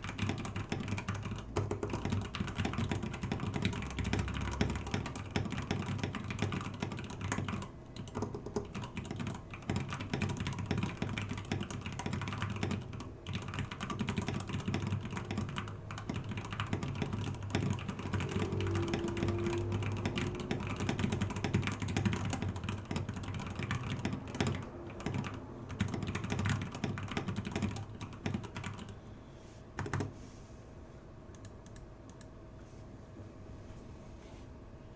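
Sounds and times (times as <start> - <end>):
fast mechanical keyboard typing: 0.0 - 29.0, 29.8 - 30.1.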